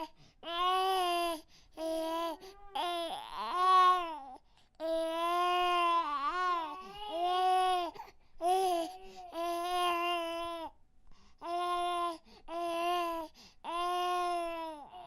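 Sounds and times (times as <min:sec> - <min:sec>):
baby crying: 0:00.0 - 0:10.7, 0:11.4 - 0:15.0.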